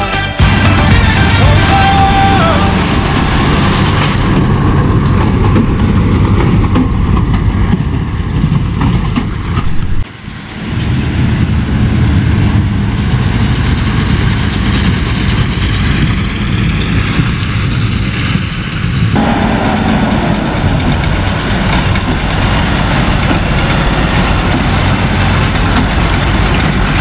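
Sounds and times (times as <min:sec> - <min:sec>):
tractor and baler running: 0:00.0 - 0:27.0.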